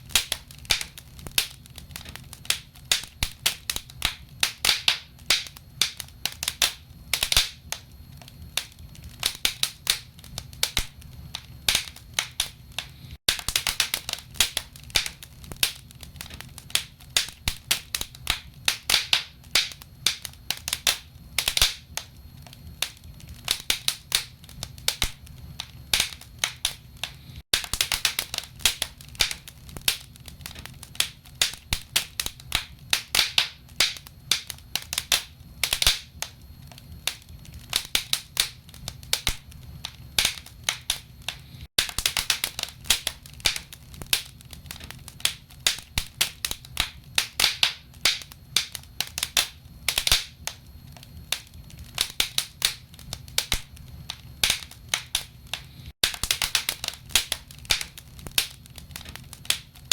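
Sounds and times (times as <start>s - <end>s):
firewood crackling in fireplace: 0.0s - 59.9s.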